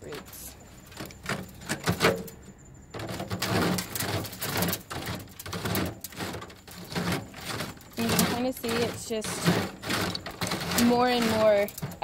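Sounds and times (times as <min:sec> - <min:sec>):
hand cultivator scraping on wire mesh: 0:00.0 - 0:02.4, 0:03.0 - 0:12.0.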